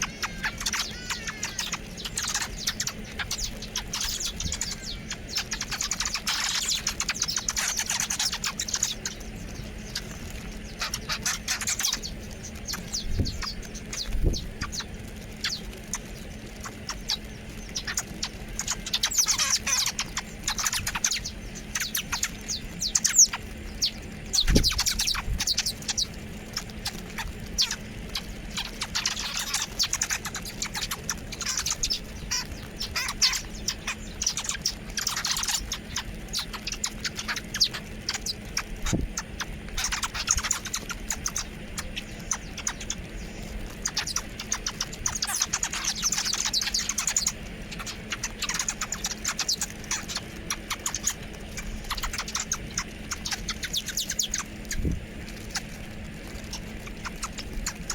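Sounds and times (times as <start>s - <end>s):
birds chirping: 0.0s - 57.9s.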